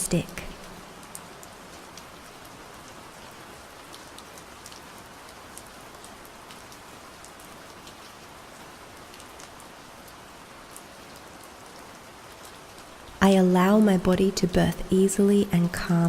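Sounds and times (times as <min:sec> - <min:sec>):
gentle rain falling: 0:00.0 - 0:16.0.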